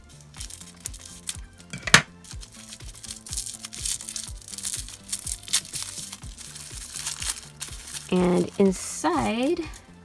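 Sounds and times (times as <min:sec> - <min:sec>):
background music with steady beat: 0:00.0 - 0:10.0
wrapping crinkling: 0:00.1 - 0:10.0.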